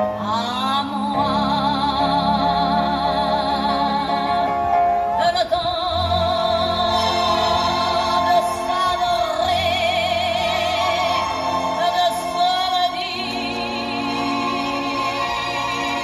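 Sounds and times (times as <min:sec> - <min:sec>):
singer with vibrato: 0:00.1 - 0:16.0.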